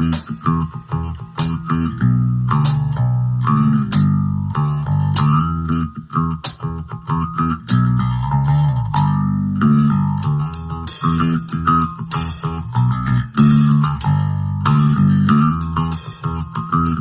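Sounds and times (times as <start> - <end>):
bass line: 0.0 - 17.0
plucked guitar music: 0.0 - 17.0.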